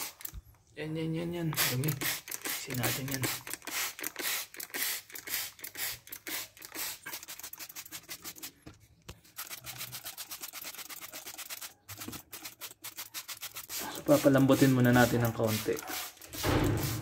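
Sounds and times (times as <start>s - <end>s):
spray bottle spritzes: 0.0s - 0.4s, 1.5s - 8.6s, 9.3s - 17.0s.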